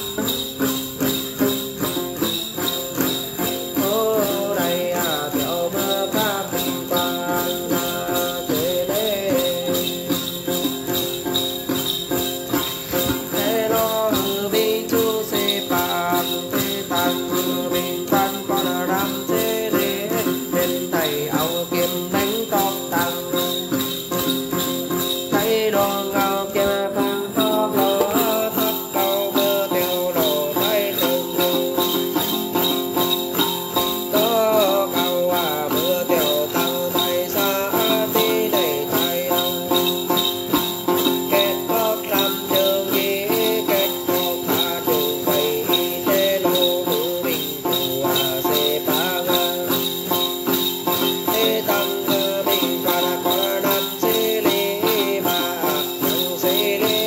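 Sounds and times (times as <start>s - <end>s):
jingle bells shaken: 0.0s - 57.0s
plucked lute: 0.0s - 57.0s
man chanting melodically: 3.4s - 11.6s, 12.8s - 57.0s.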